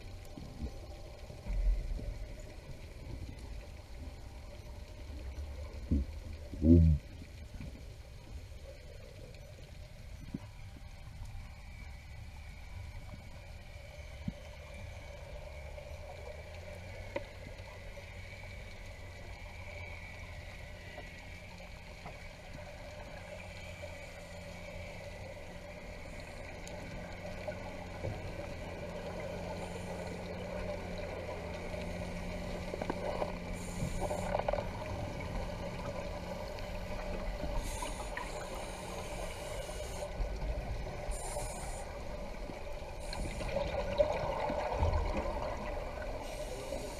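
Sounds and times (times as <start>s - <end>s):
underwater low drone: 0.0s - 46.9s.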